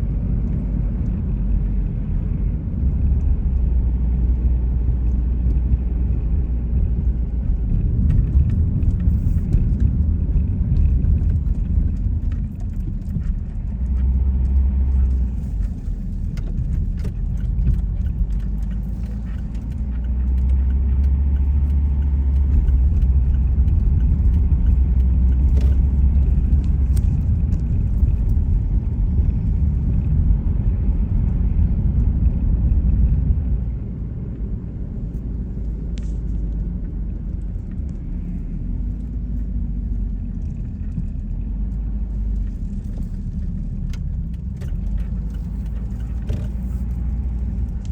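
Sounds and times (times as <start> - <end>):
car tyre and engine rumble: 0.0 - 47.9.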